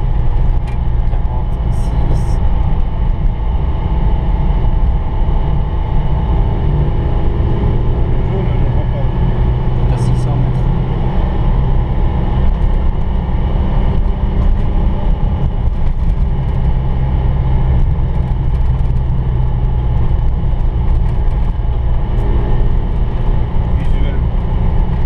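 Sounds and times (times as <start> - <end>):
car engine running: 0.0 - 25.0
road noise: 0.0 - 25.0.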